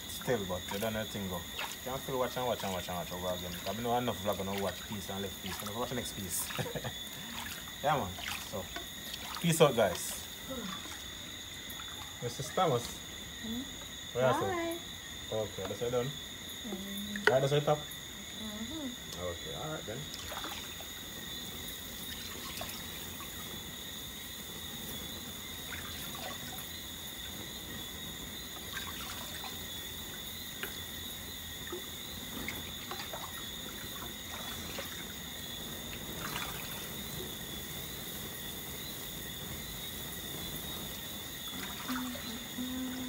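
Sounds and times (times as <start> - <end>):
faint crackles of flames: 0.0 - 43.0
water trickling: 0.0 - 43.0.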